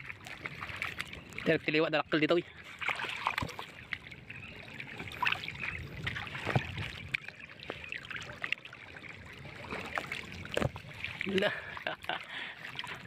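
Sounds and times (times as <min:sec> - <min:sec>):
small splashes: 0:00.0 - 0:01.6, 0:02.5 - 0:13.0
water sloshing and trickling: 0:00.0 - 0:13.0.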